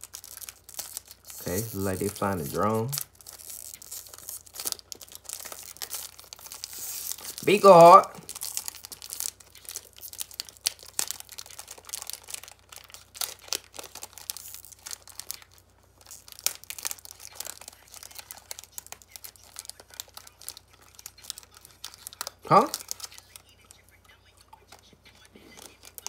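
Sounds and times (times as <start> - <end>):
snack bag crinkling: 0.0 - 26.0.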